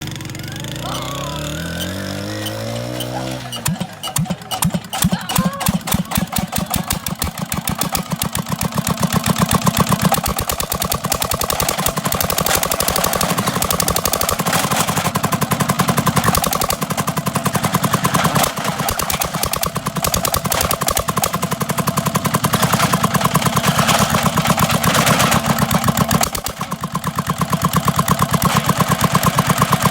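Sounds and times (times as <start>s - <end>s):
diesel engine chugging: 0.0s - 29.9s.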